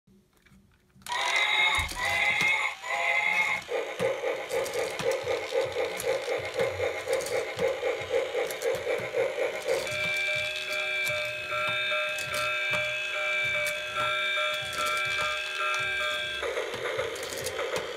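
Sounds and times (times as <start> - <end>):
rhythmic pulsing electronic sound: 1.4 - 17.9.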